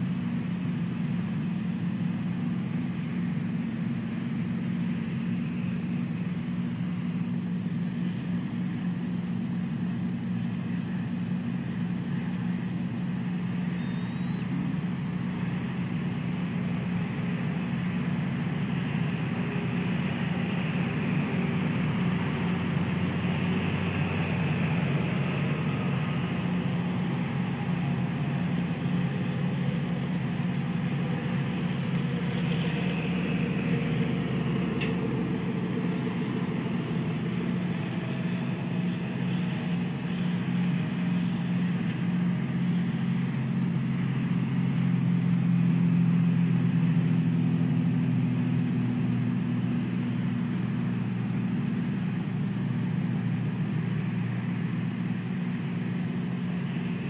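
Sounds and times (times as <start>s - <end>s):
road traffic drone: 0.0s - 57.0s.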